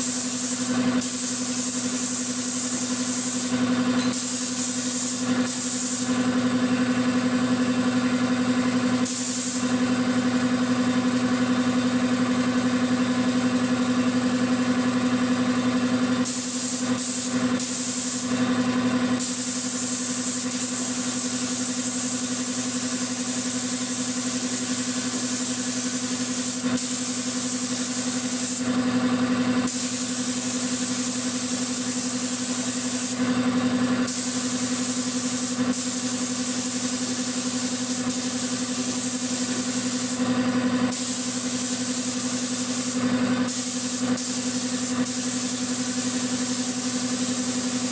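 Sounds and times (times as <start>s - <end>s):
paint spray gun hissing: 0.0s - 6.4s, 9.0s - 10.0s, 16.2s - 47.9s.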